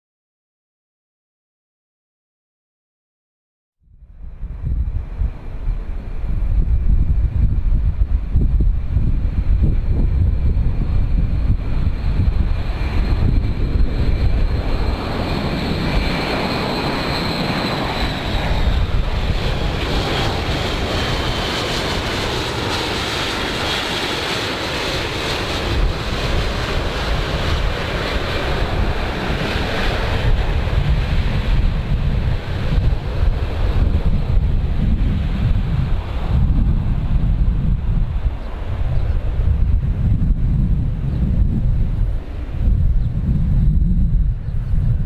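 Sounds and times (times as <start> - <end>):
wind rumble on microphone: 3.8 - 45.0
jet airplane passing by: 3.9 - 45.0.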